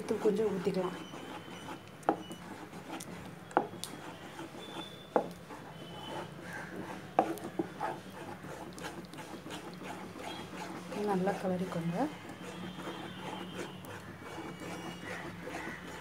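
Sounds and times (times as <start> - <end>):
spatula scraping thick batter: 0.0 - 16.0.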